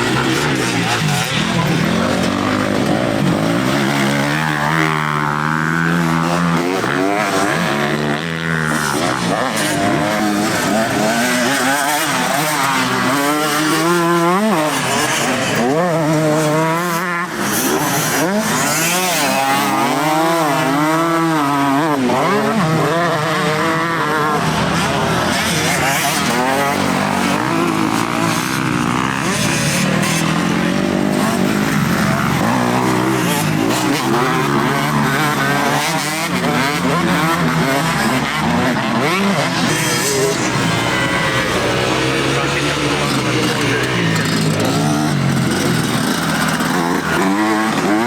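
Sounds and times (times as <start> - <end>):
motocross motorcycles revving: 0.0 - 48.0.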